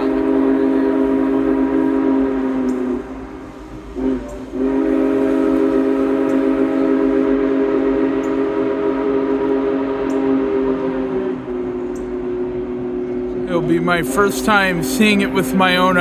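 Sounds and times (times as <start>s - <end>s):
steam whistle blowing: 0.0s - 16.0s.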